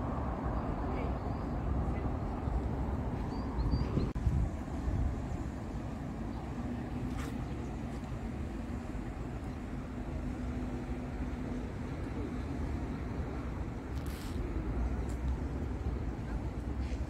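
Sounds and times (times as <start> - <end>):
rumble of passing vehicles: 0.0 - 17.0.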